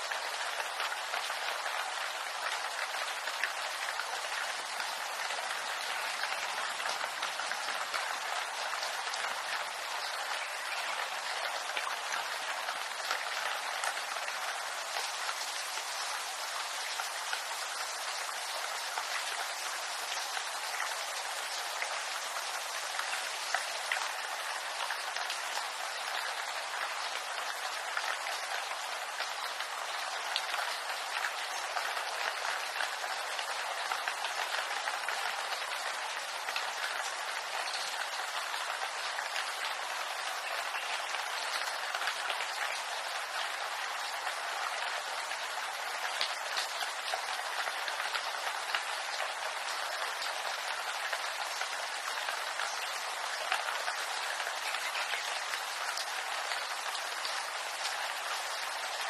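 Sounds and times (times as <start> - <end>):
rain pattering on leaves: 0.0 - 59.0.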